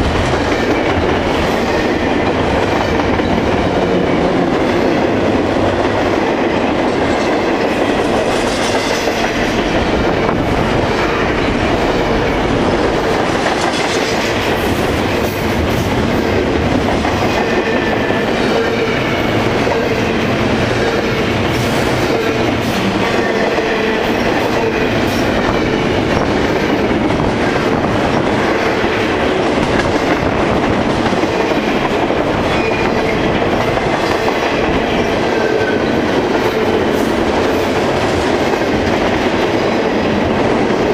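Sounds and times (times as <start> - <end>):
clickety-clack over rail joints: 0.0 - 40.9
freight train wheels rumbling: 0.0 - 40.9.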